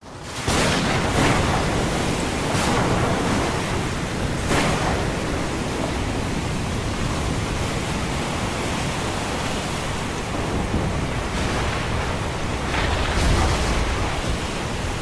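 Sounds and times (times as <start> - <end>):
ocean waves breaking: 0.1 - 15.0.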